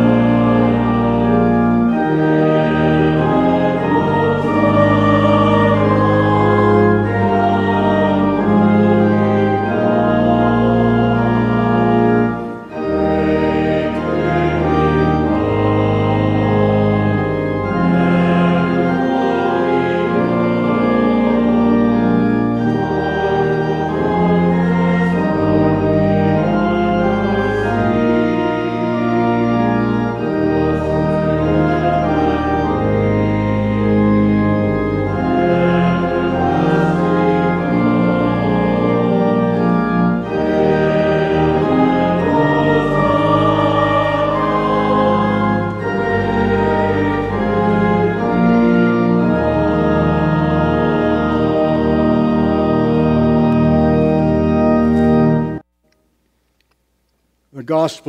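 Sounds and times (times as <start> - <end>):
church organ playing hymn: 0.0 - 55.7, 57.5 - 58.0
voices singing: 2.1 - 11.6, 12.7 - 21.8, 22.7 - 33.7, 35.0 - 52.4.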